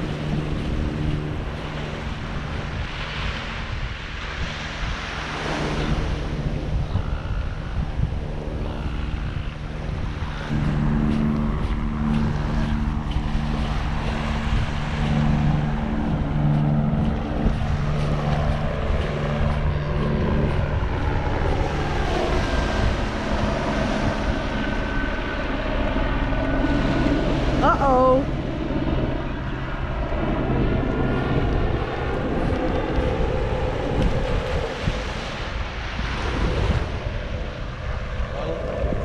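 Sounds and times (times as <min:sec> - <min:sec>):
motor engine humming: 0:00.0 - 0:03.8, 0:05.0 - 0:35.2
steady rushing noise: 0:00.0 - 0:39.0.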